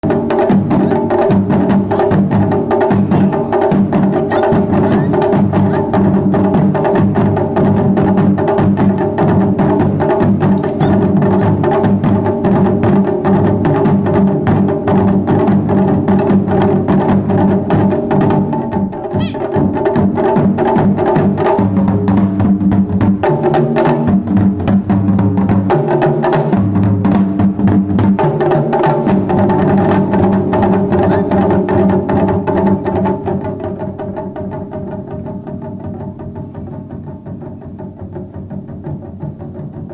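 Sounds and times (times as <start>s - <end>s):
taiko drums ensemble: 0.0s - 39.9s.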